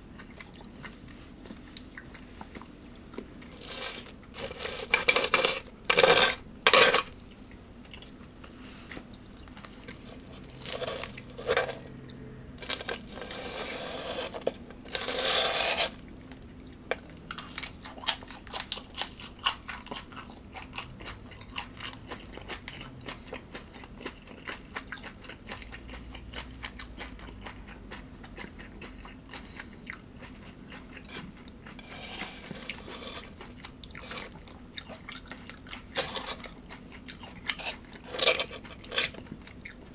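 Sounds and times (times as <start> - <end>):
person chewing crunchy food: 0.1 - 39.9.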